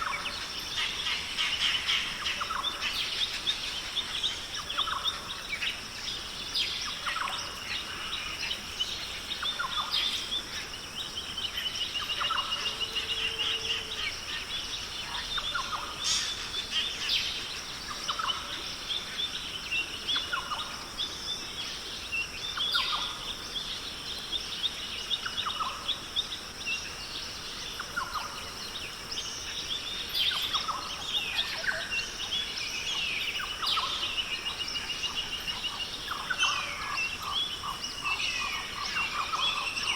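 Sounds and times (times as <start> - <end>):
birds calling and trilling: 0.0 - 39.9.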